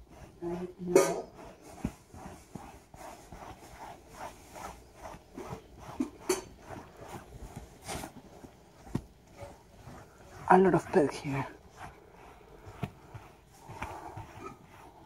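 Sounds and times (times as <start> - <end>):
glove rubbing velvet upholstery: 0.0 - 15.0
sharp scrapes: 0.0 - 15.0.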